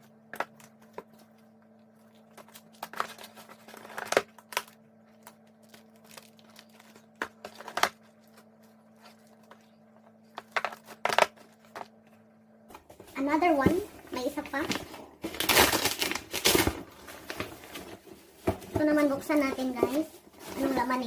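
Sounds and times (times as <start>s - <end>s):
packaging crinkling and rustling: 0.0s - 12.0s, 12.8s - 21.0s.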